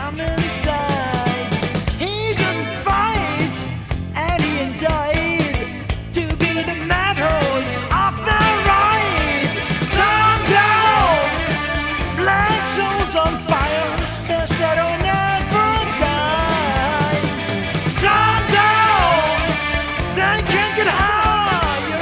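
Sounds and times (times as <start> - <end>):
rock band music: 0.0 - 22.0.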